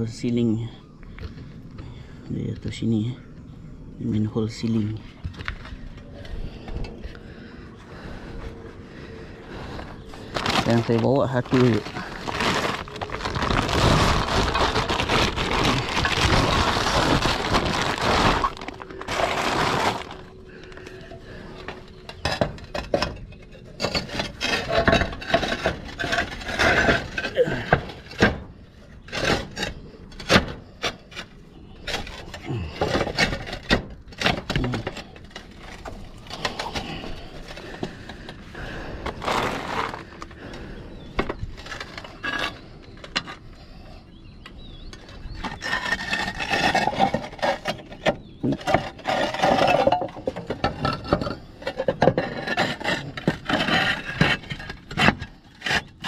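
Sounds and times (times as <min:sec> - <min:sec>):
roof tiles scraping and knocking: 0:09.0 - 0:43.8, 0:44.7 - 0:56.0.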